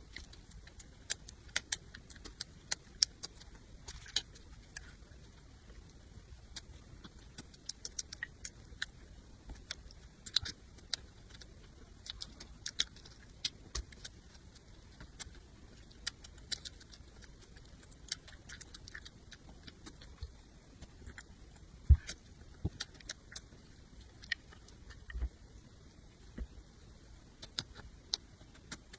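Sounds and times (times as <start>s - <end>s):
chewing and crunching: 0.0s - 28.9s.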